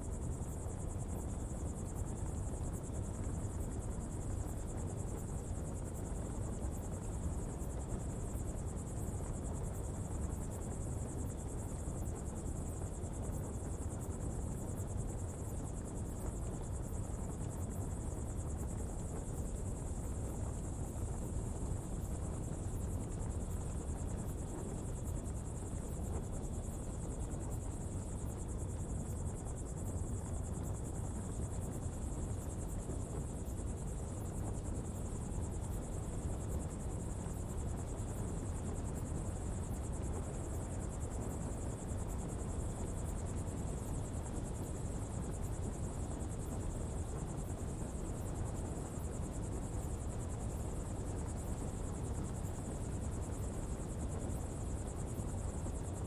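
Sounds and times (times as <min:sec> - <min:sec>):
faint fire crackles: 0:00.0 - 0:56.0.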